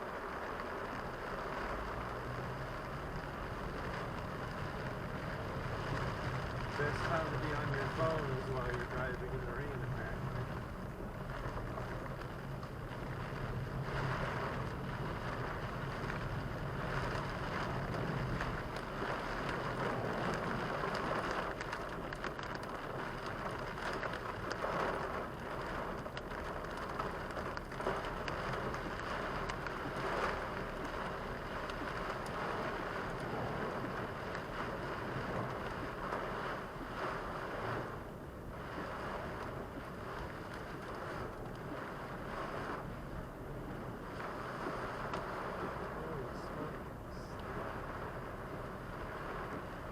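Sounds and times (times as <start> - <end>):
low road hum: 0.0 - 49.9
rain on a moving car: 0.0 - 49.9
tyre noise on wet road: 0.0 - 49.9.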